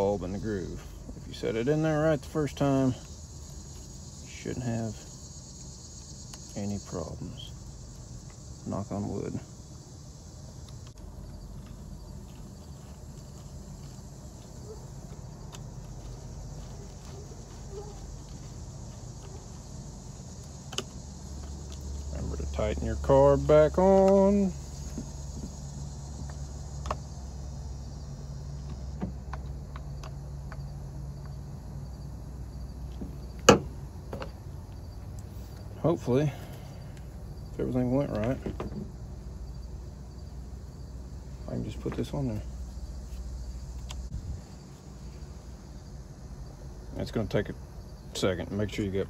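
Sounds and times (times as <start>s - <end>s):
faint insect chirping: 0.0s - 49.0s
steady low hum: 0.0s - 49.0s.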